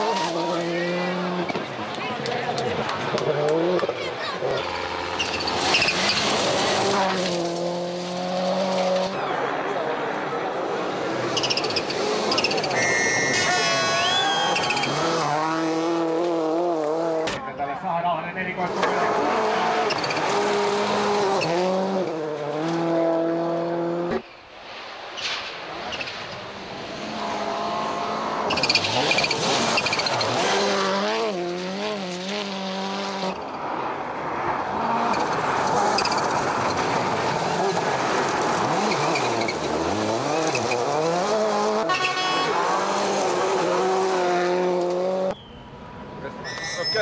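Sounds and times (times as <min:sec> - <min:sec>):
rally car approaching: 0:00.0 - 0:24.2, 0:24.8 - 0:47.0.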